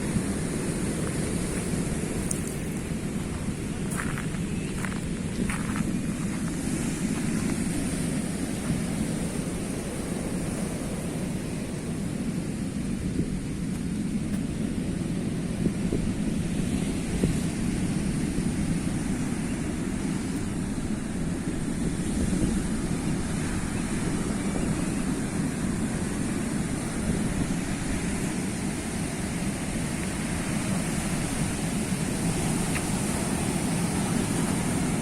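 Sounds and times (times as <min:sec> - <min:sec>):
sea waves washing on shore: 0:00.0 - 0:35.0.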